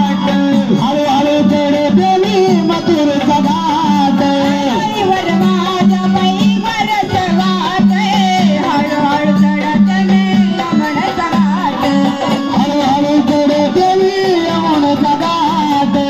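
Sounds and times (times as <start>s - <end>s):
folk devotional instrumental music: 0.0s - 16.0s
percussion: 0.0s - 16.0s.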